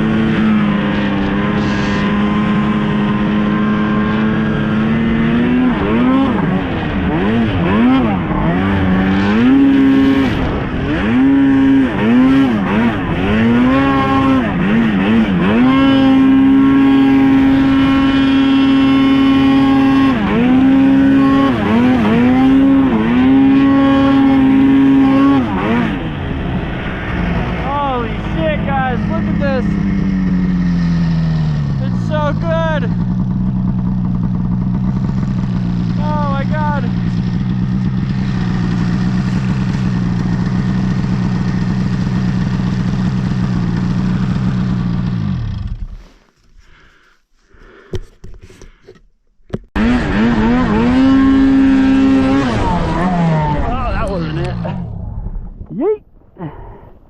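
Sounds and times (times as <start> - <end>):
snowmobile engine running: 0.0 - 48.8, 49.5 - 56.6.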